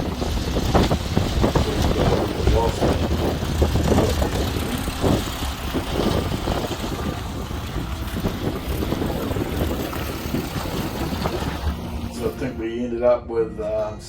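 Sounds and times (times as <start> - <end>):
wind buffeting microphone: 0.0 - 12.6
vehicle engine running: 0.0 - 12.7.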